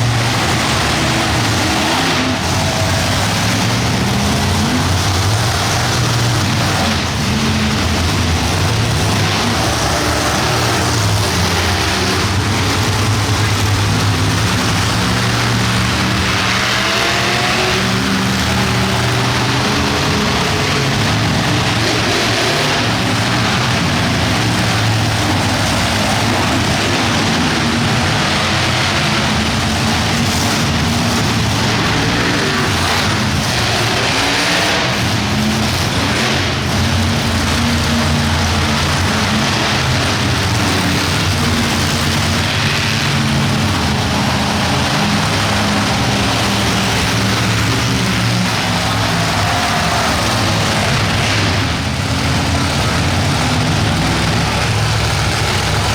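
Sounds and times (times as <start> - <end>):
monster truck engines revving: 0.0 - 55.9.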